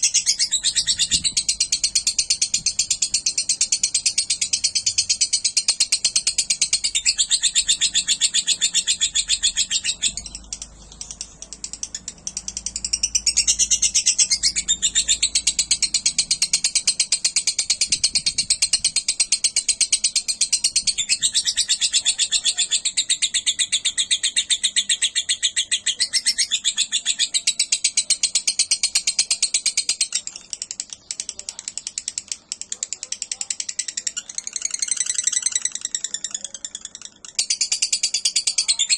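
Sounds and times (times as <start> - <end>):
lovebird chattering trill: 0.0 - 38.9.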